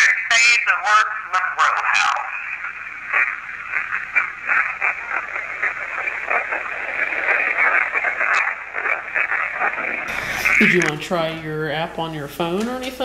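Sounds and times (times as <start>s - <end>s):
choppy radio-like hiss: 0.0s - 13.0s.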